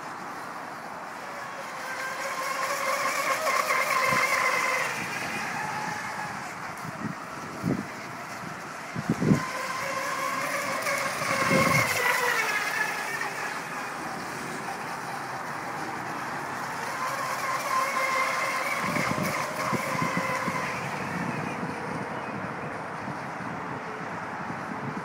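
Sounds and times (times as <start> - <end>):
electric motor and propeller whining: 0.0 - 25.0
wind buffeting microphone: 1.5 - 25.0.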